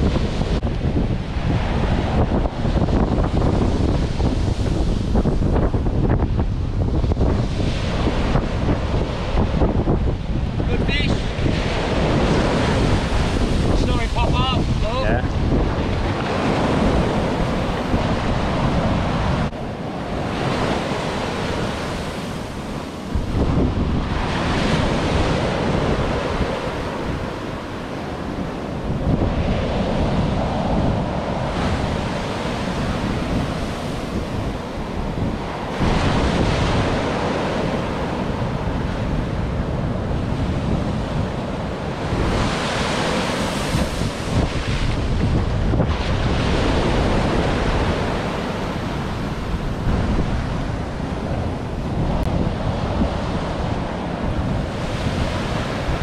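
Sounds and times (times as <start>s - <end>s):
ocean surf breaking: 0.0s - 56.0s
wind buffeting microphone: 0.0s - 56.0s.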